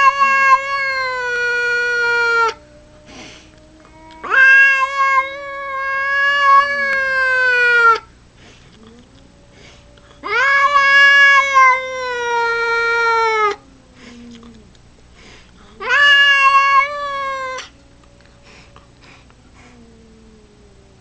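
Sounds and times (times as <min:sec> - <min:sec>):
cats yowling loudly: 0:00.0 - 0:08.1, 0:08.7 - 0:14.8, 0:15.7 - 0:21.0
low drawn-out cat yowl: 0:00.0 - 0:08.1, 0:08.8 - 0:14.7, 0:15.8 - 0:21.0.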